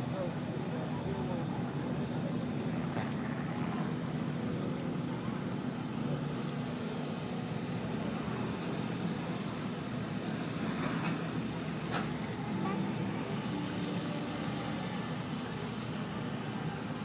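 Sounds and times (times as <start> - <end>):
engine hum: 0.0 - 17.0
traffic: 0.0 - 17.0.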